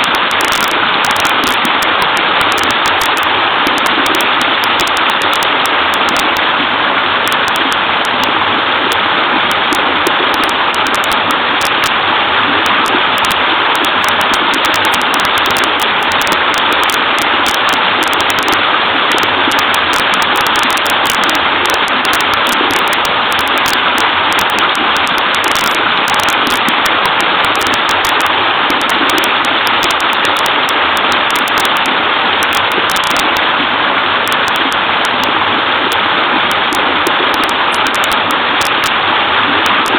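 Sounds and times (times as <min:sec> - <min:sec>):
waterfall rushing into creek: 0:00.0 - 0:39.9.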